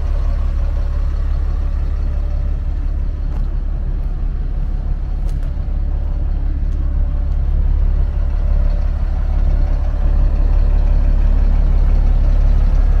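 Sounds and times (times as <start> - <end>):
diesel truck idling: 0.0 - 13.0.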